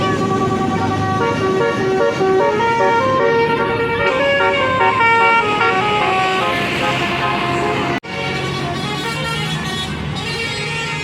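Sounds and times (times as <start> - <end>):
multi-tone bus air horn: 0.0 - 11.0.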